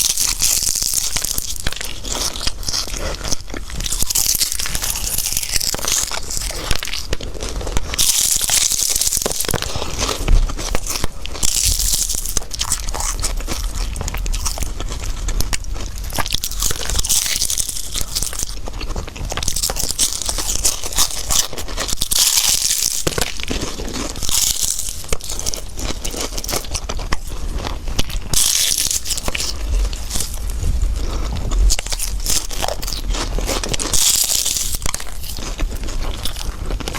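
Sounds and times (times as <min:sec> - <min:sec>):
biting and chewing: 0:00.0 - 0:36.9
pastry crust crunching: 0:00.0 - 0:36.9.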